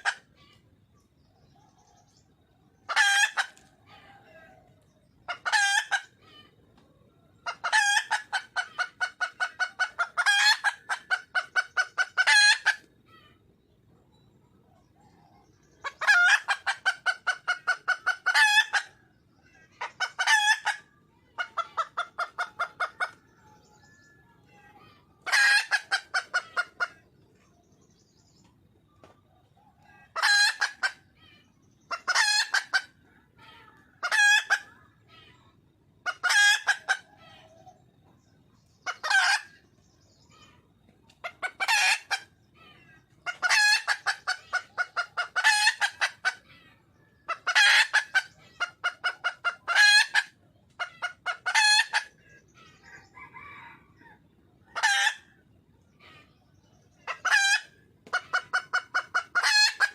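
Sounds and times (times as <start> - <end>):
hen clucking rapidly: 0.0 - 13.7, 14.5 - 39.8, 40.4 - 59.9.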